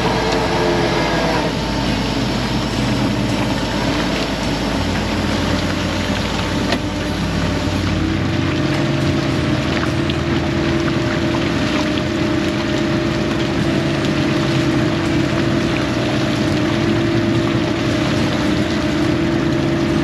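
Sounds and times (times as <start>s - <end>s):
boat engine humming: 0.0s - 20.0s
water wash: 0.0s - 20.0s.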